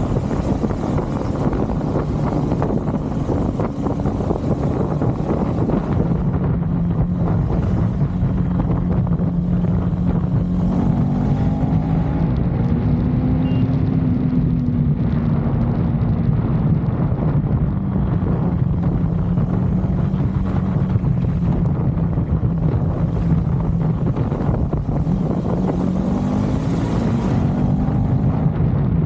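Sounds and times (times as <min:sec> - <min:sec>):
motorcycle engine cruising: 0:00.0 - 0:29.0
wind rushing over microphone: 0:00.0 - 0:29.0.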